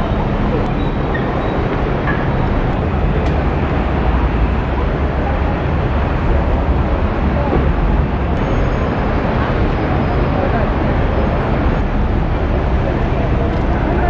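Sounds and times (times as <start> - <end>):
loud vehicle rumble: 0.0 - 14.0.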